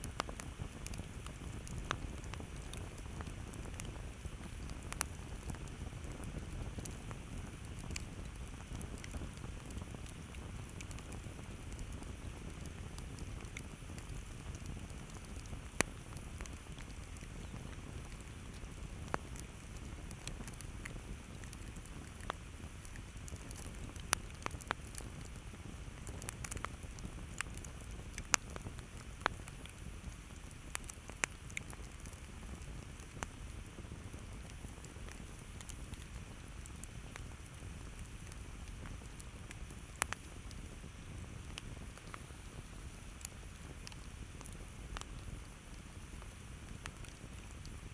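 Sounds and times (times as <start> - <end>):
campfire rumble: 0.0 - 47.9
wood crackling and popping: 0.0 - 47.9.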